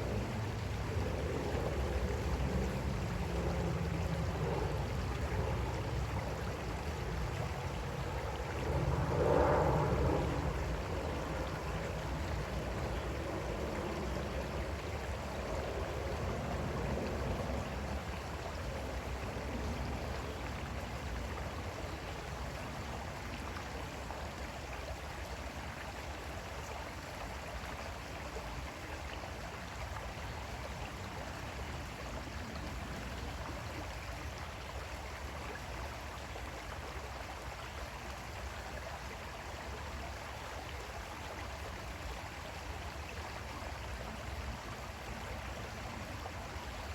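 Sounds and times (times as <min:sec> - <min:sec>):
creek water flowing over stones: 0:00.0 - 0:46.9.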